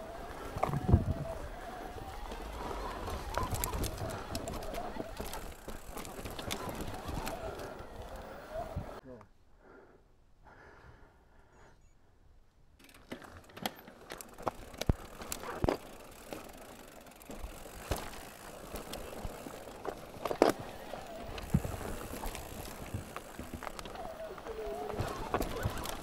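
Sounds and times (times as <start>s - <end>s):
bike tyres rushing on trail: 0.0s - 9.0s, 12.8s - 26.0s
bike knocks and rattles: 0.3s - 9.0s, 12.8s - 26.0s.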